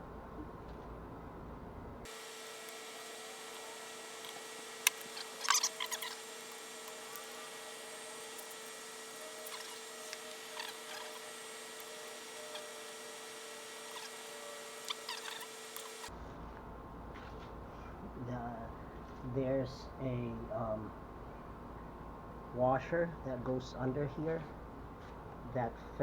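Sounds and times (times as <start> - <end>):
faint hum and hiss: 0.0 - 26.0.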